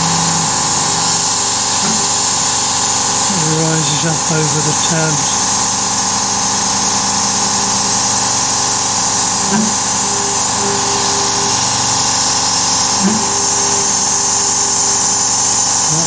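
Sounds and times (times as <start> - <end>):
air assist hissing: 0.0 - 16.0
cnc mill cutting: 0.0 - 16.0.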